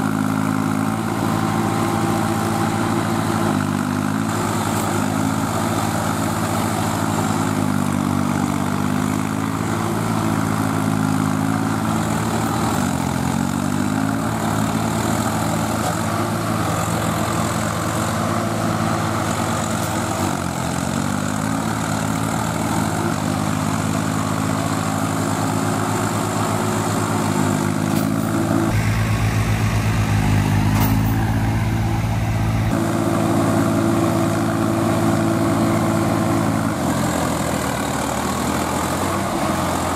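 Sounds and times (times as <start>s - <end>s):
diesel tractor engines straining: 0.0s - 39.9s.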